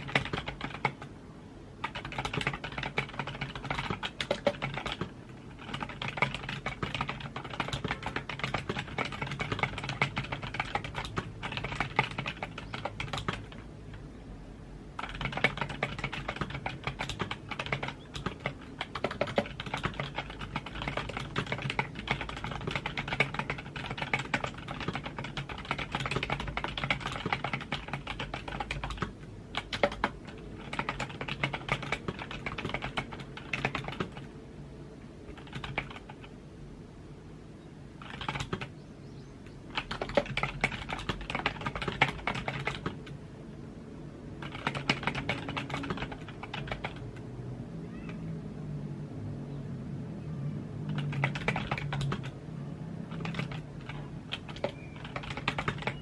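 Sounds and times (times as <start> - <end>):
keyboard typing: 0.0 - 1.1, 1.8 - 14.0, 15.0 - 34.3, 35.3 - 36.4, 38.0 - 38.7, 39.7 - 43.2, 44.4 - 47.3, 50.8 - 52.4, 53.0 - 56.0.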